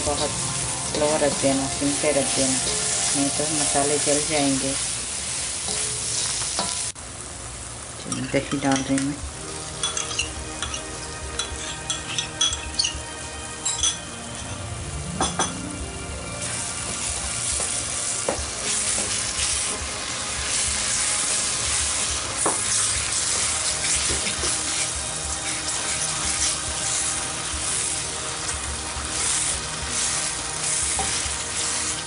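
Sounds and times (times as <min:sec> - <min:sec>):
masala sizzling in hot oil: 0:00.0 - 0:32.0.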